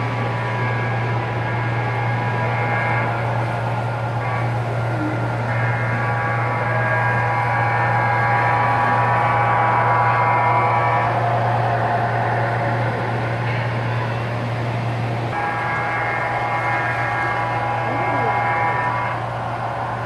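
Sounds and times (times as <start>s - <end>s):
electric hum: 0.0s - 20.0s
model train wheels rolling on track: 0.0s - 20.0s
steady pitched drone: 0.0s - 20.0s.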